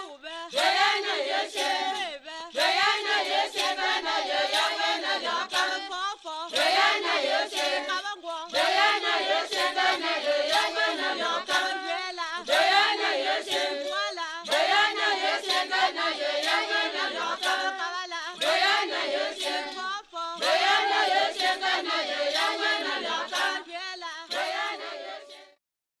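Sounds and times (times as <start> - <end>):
choir singing: 0.0 - 25.6
sharp percussive claps: 0.0 - 25.6.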